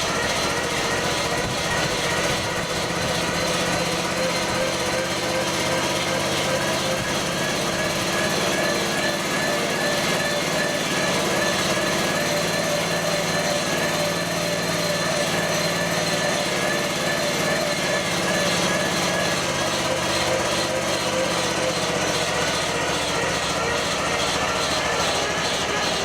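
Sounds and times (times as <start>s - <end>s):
small engine running under load: 0.0s - 26.0s.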